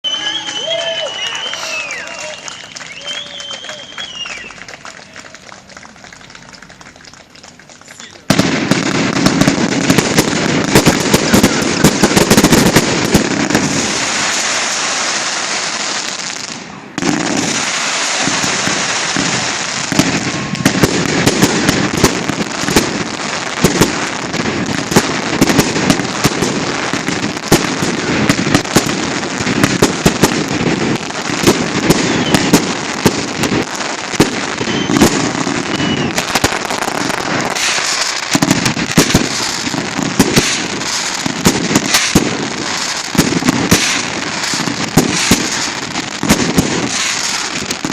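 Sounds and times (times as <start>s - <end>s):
firework shells bursting: 0.0s - 47.9s
fireworks crackling and popping: 0.0s - 47.9s.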